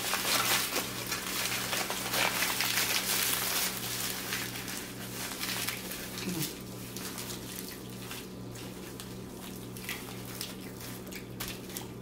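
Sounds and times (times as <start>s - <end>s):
close chewing of food: 0.0s - 12.0s.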